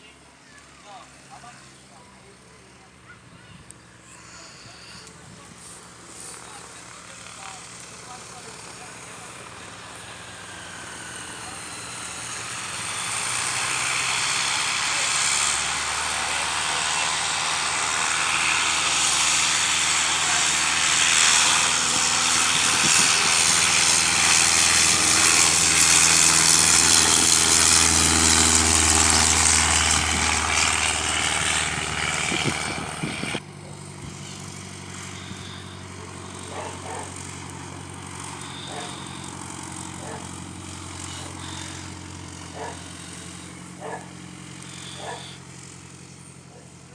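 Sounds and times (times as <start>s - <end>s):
propeller airplane engine: 0.0s - 46.9s.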